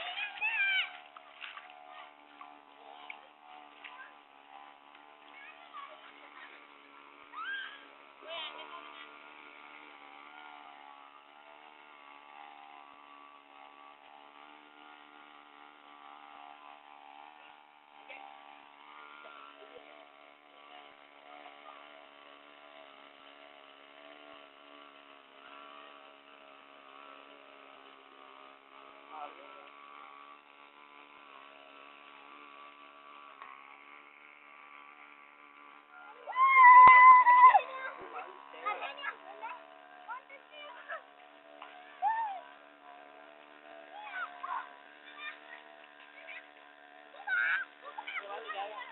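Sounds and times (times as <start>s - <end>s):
small boat engine droning: 0.0s - 48.9s.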